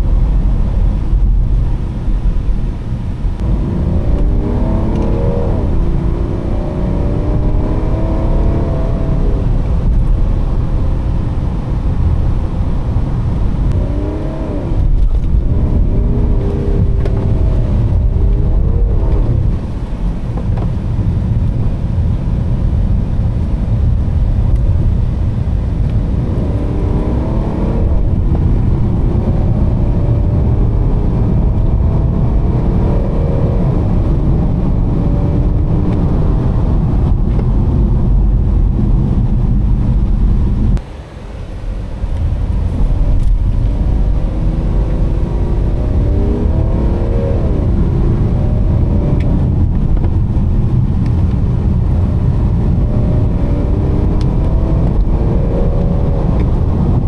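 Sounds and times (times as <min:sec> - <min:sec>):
diesel engine pulling through gears: 0:00.0 - 0:57.0
road and tyre noise: 0:00.0 - 0:57.0.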